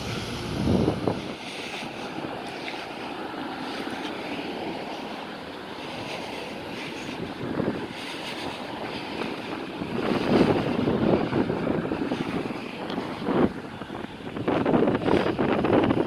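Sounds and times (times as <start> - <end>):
cars passing on road: 0.0 - 16.0.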